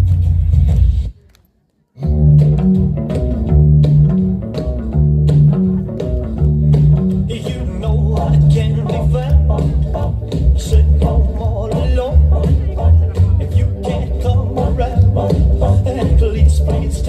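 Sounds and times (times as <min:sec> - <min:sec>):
dance music: 0:02.0 - 0:17.0
plucked guitar notes: 0:02.0 - 0:17.0
repeating bass line: 0:02.0 - 0:17.0.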